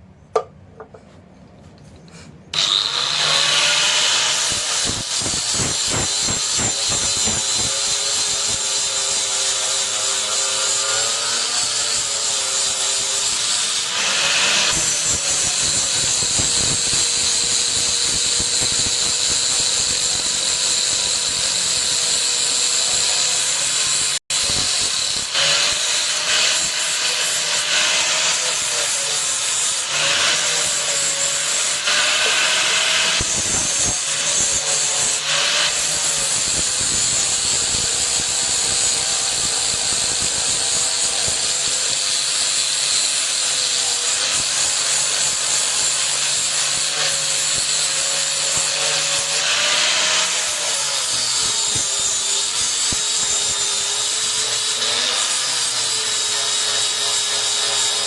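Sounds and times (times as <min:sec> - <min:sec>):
power tool grinding steel: 0:02.5 - 0:58.0.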